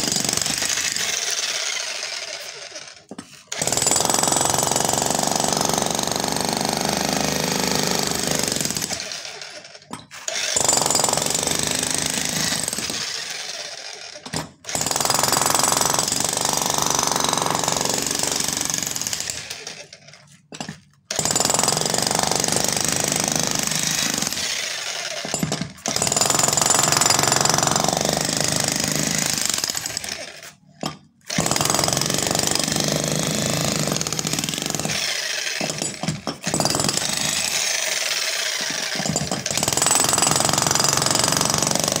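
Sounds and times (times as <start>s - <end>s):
demolition hammer pounding concrete: 0.0s - 1.2s, 3.0s - 9.1s, 9.8s - 13.0s, 14.2s - 19.5s, 20.5s - 42.0s.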